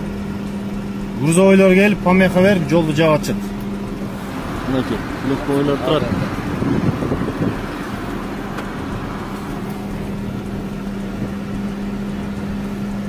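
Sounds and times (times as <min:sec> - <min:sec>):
rough rumbling background: 0:00.0 - 0:13.0
vehicle engine idling: 0:00.0 - 0:13.0.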